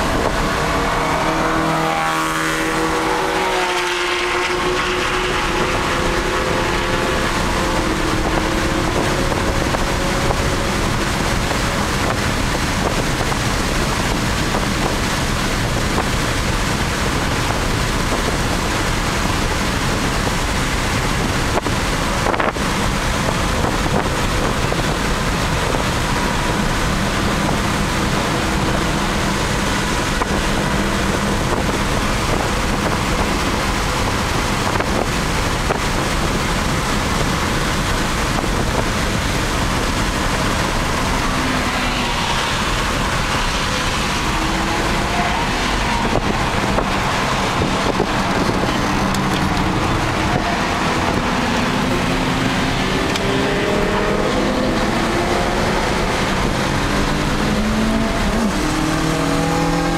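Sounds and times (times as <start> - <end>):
car engine drone: 0.0 - 59.9
wind and road noise: 0.0 - 59.9.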